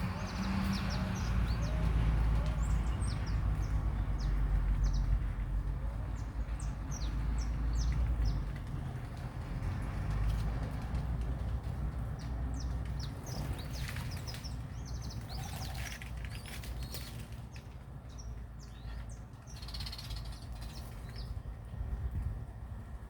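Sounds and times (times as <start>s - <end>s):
small birds chirping: 0.0s - 10.8s, 12.0s - 21.6s.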